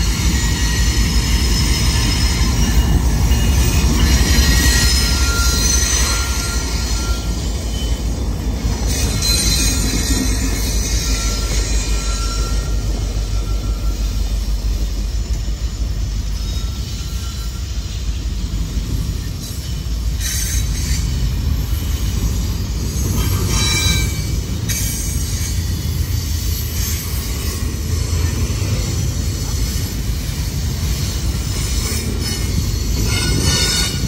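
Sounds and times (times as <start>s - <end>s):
train wheels rumbling on rail: 0.0s - 34.0s
wheel squeals: 0.0s - 34.0s.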